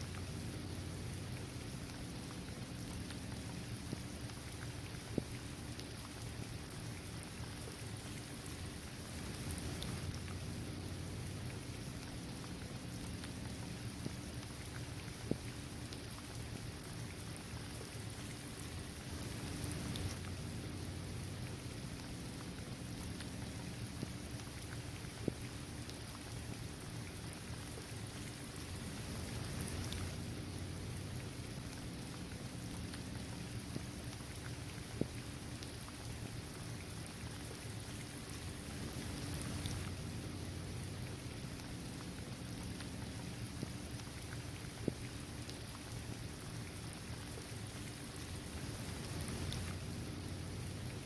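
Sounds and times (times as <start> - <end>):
low steady rumble: 0.0 - 51.0
steady rain falling: 0.0 - 51.0.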